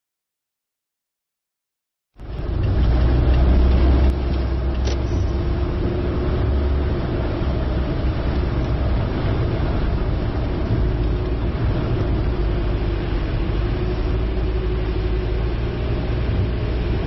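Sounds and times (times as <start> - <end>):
car driving: 2.2 - 17.0
heavy low rumble: 2.2 - 17.0.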